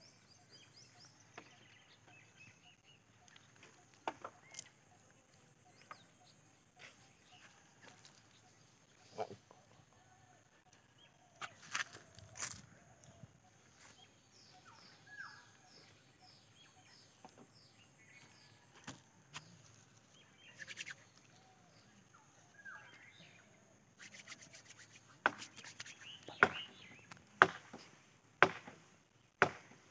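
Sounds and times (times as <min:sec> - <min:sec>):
birds chirping: 0:00.0 - 0:28.1.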